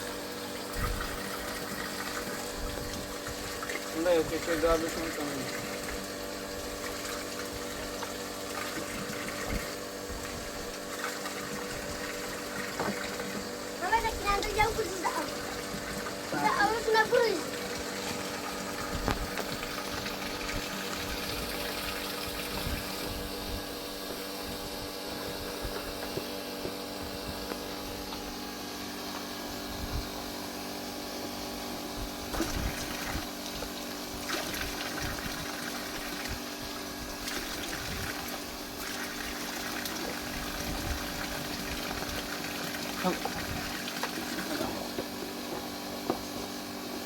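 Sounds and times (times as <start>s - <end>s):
running water rushing: 0.0s - 25.4s, 32.2s - 46.7s.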